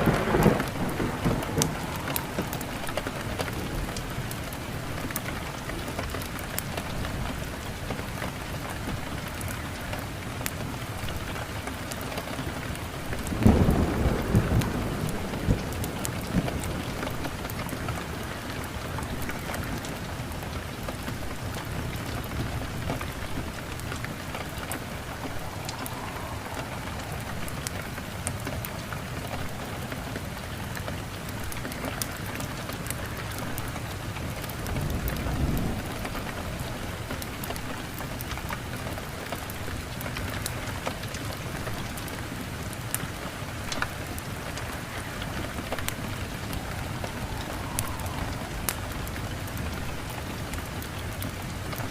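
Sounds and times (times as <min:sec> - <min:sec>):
heavy rain: 0:00.0 - 0:51.9
low rumble of thunder: 0:00.0 - 0:51.9
sharp crackles: 0:00.0 - 0:51.9.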